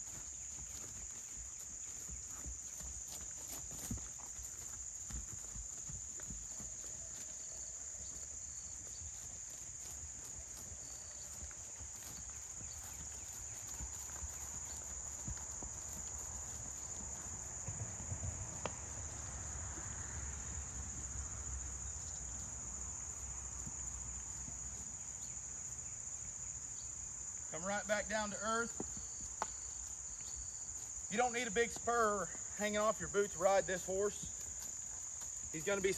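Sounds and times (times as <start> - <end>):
horse hooves on turf: 0.0 - 26.4, 27.3 - 35.9
insects chirping: 0.0 - 35.9.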